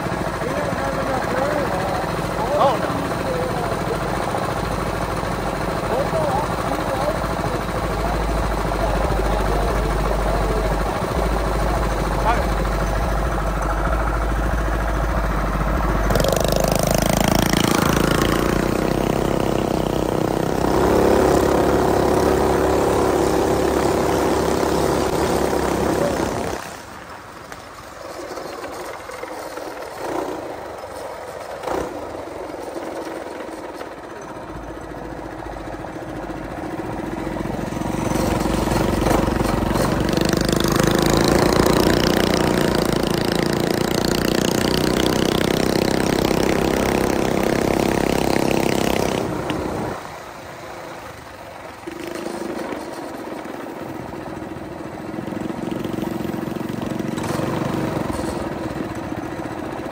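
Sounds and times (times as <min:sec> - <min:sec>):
mini bike small engine running: 0:00.0 - 0:59.9.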